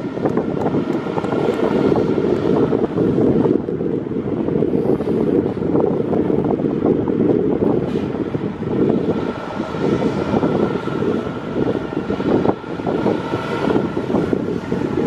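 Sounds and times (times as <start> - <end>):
diesel truck engine running: 0.0 - 15.0
wind buffeting microphone: 0.0 - 15.0.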